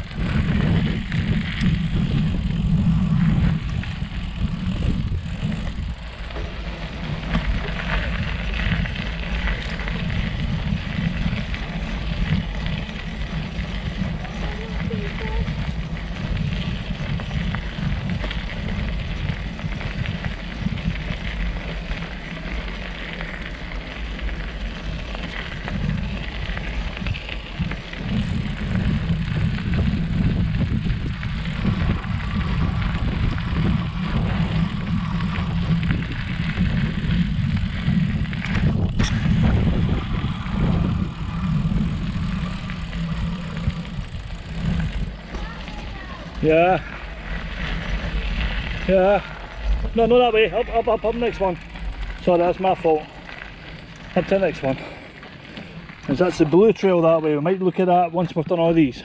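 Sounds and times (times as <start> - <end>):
bike tyres and frame rattling: 0.0 - 59.0.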